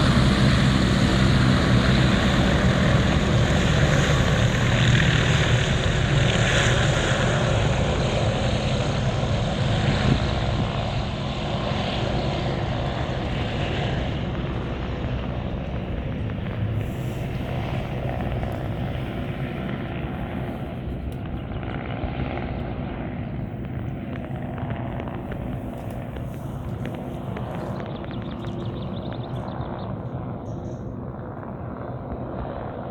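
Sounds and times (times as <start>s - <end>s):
helicopter rotor and engine: 0.0s - 32.9s.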